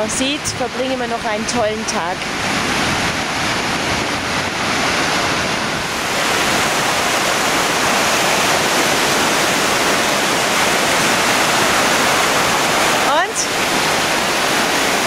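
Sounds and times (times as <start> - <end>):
surf washing on shore: 0.0 - 15.0.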